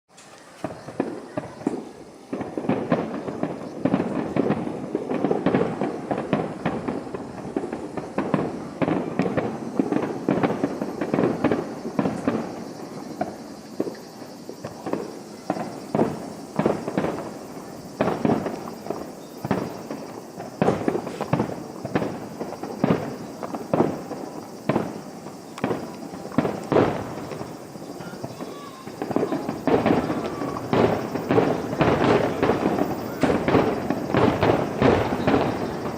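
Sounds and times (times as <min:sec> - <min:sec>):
fireworks crackling: 0:00.1 - 0:35.9
fireworks booming: 0:00.2 - 0:35.9.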